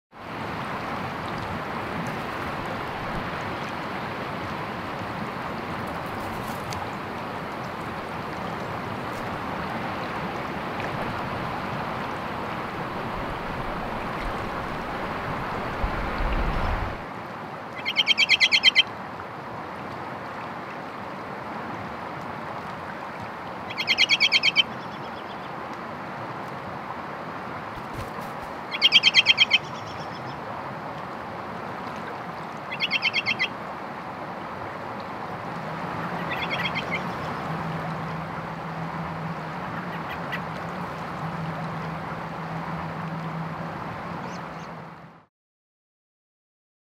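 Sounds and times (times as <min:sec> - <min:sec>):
river water rushing: 0:00.2 - 0:45.2.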